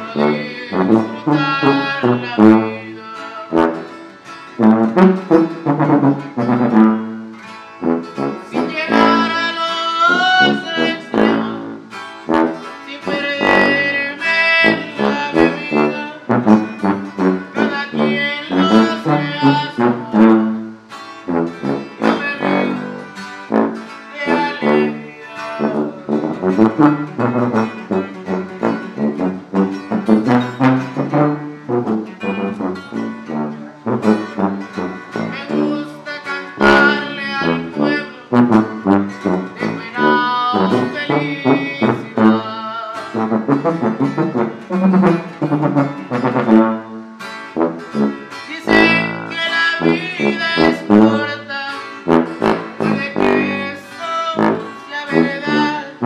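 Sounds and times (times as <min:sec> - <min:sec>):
acoustic guitars strummed: 0:00.0 - 0:56.0.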